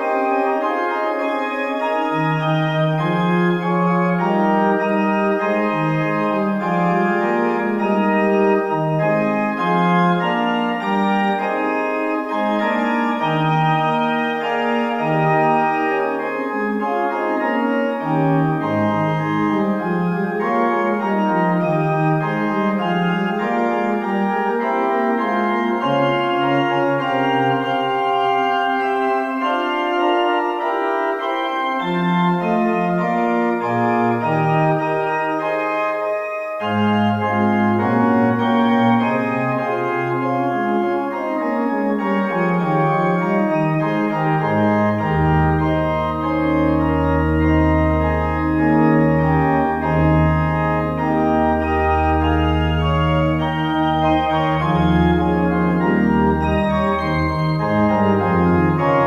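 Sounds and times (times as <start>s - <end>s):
organ chords: 0.0s - 59.0s.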